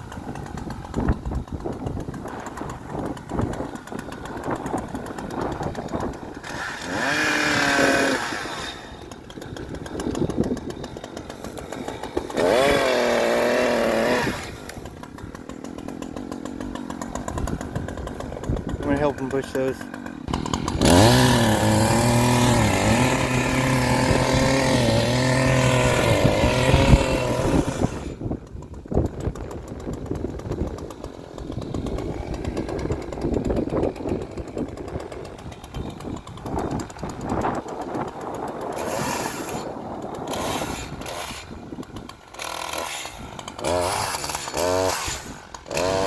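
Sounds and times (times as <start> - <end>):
chainsaw engine at high revs: 0.0 - 46.0.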